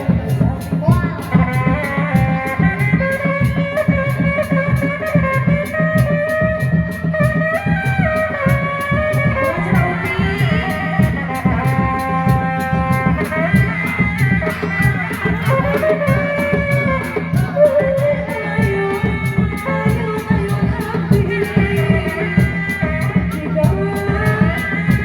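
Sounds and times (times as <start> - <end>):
drums fast steady beat: 0.0 - 25.0.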